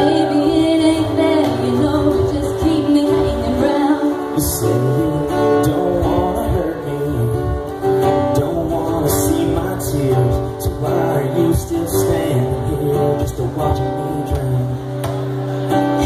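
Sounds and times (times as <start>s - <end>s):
person singing: 0.0s - 15.2s
acoustic guitar strumming: 0.0s - 16.0s.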